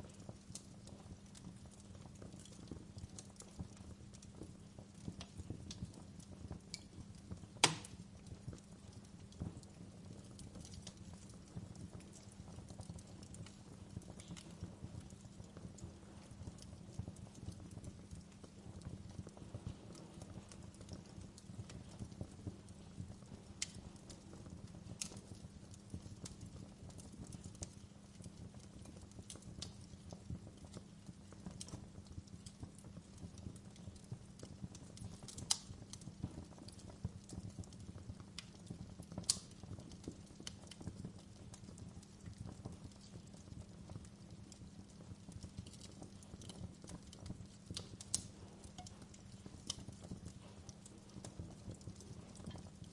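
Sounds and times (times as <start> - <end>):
burning wood crackling and popping: 0.0 - 52.9
fire rumbling: 0.0 - 52.9.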